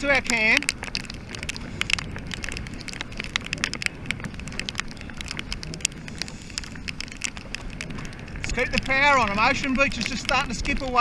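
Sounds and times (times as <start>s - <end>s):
water drops pattering on camera: 0.0s - 11.0s
water rushing along boat hull: 0.0s - 11.0s.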